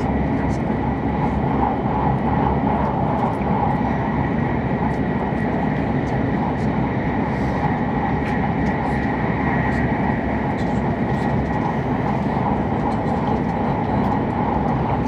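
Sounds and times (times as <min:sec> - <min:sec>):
train cabin low rumble: 0:00.0 - 0:15.0.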